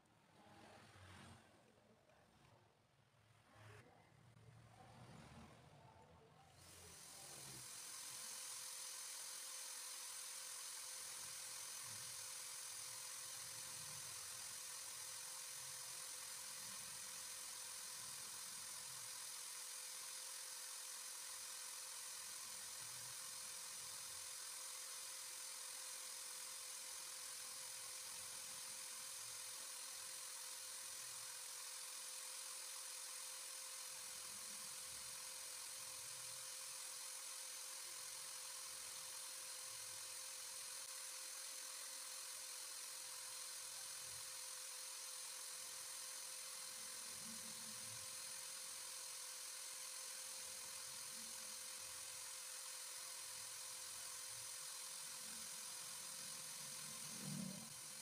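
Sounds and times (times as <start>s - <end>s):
electric drill whirring: 6.5s - 58.0s.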